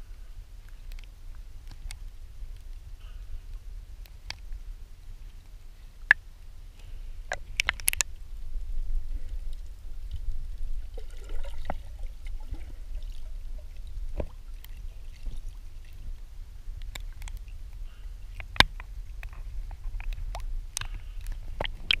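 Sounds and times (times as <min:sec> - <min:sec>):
water lapping and trickling: 0:00.0 - 0:22.0
small drips and clicks: 0:00.6 - 0:08.3, 0:09.2 - 0:22.0.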